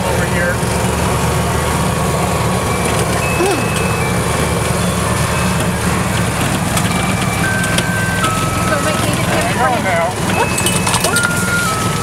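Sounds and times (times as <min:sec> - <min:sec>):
utility vehicle engine rumbling: 0:00.0 - 0:12.0.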